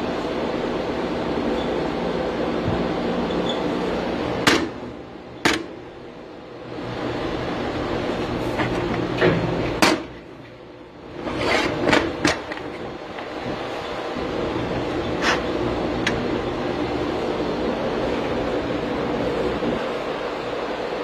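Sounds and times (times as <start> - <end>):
lathe humming: 0.0 - 21.0.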